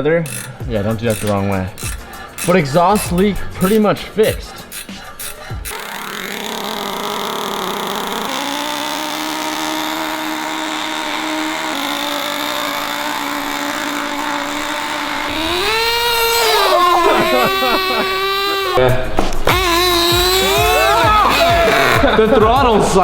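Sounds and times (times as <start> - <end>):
small engine running high-pitched: 0.0 - 18.8, 19.5 - 22.2.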